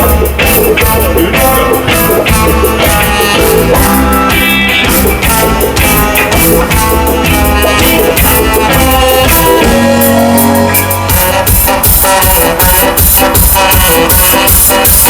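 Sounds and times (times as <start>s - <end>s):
ska band playing live: 0.0s - 15.0s.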